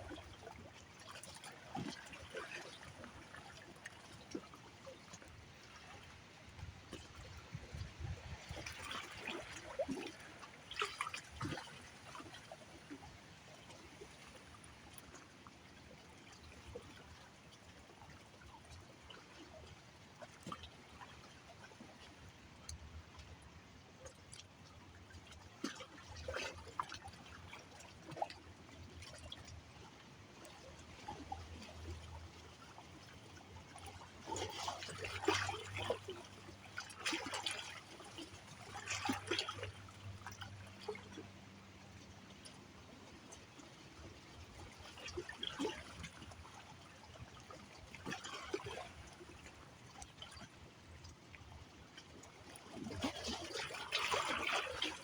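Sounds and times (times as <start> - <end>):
river water trickling and splashing: 0.0 - 55.0.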